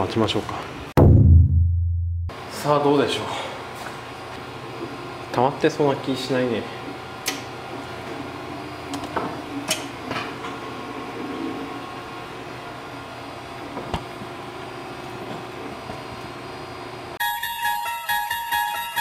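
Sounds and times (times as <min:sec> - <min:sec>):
steady mechanical hum: 0:00.0 - 0:00.9, 0:02.3 - 0:17.2.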